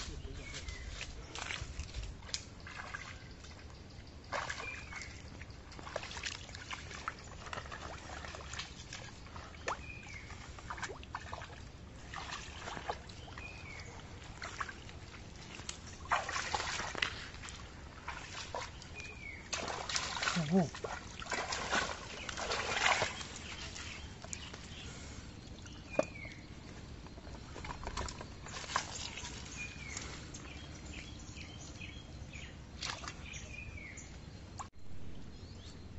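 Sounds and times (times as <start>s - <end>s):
muddy water sloshing and splashing: 0.0s - 35.3s.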